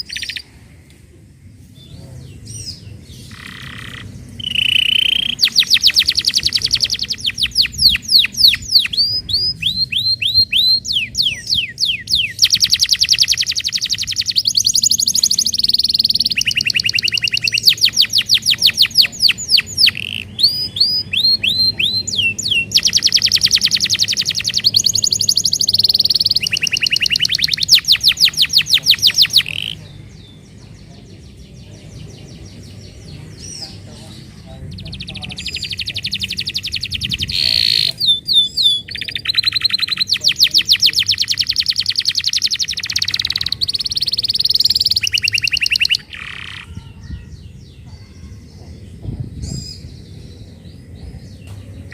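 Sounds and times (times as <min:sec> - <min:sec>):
canary singing: 0:00.0 - 0:00.6, 0:01.8 - 0:51.9.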